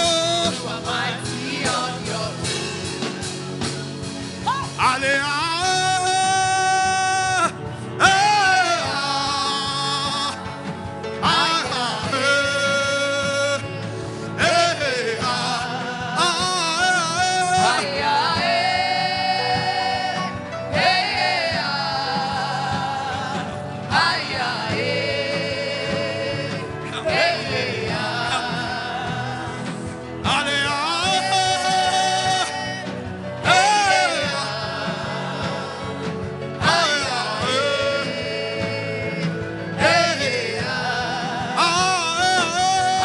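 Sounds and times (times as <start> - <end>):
instrumental backing: 0.0 - 43.0
solo voice singing: 4.7 - 43.0.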